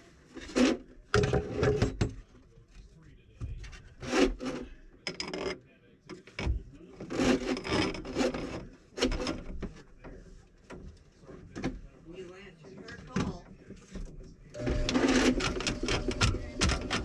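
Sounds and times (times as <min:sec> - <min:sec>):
drain cable scraping against pipes: 0:00.0 - 0:02.0, 0:03.6 - 0:11.8, 0:12.8 - 0:17.0.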